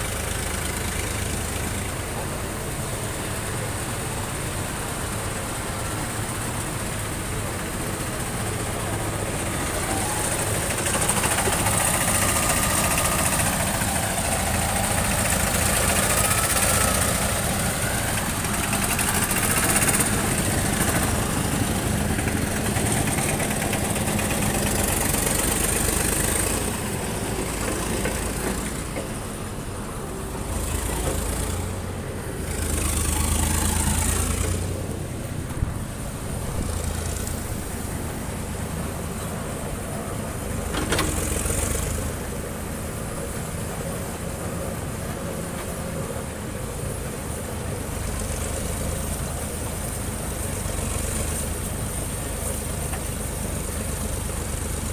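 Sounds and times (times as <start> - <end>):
construction machinery engines droning: 0.0 - 54.9.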